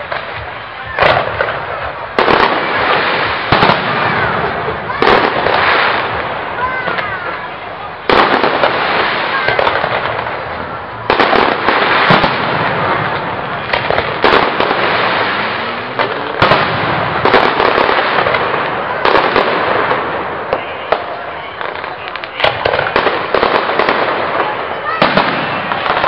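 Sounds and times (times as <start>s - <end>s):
firework bangs: 0.0s - 26.0s.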